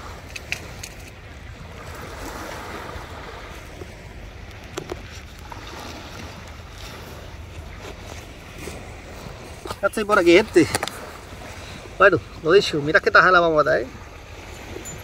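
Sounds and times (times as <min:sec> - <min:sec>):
wind on microphone: 0:00.0 - 0:12.5, 0:13.8 - 0:15.0
surf washing on beach: 0:00.0 - 0:15.0.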